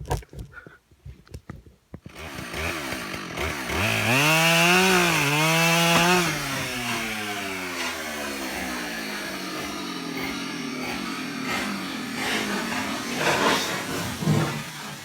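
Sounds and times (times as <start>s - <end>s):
chainsaw revving: 2.1s - 15.0s.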